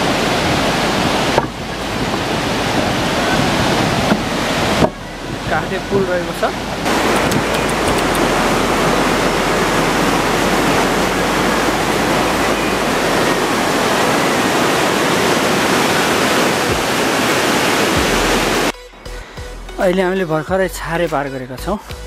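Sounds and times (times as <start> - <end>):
water rushing over rocks: 0.0 - 18.7.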